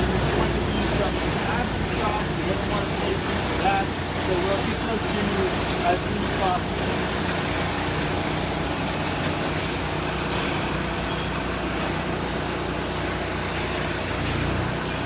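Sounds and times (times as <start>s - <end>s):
vehicle engine idling: 0.0s - 14.1s
street noise: 0.0s - 15.0s.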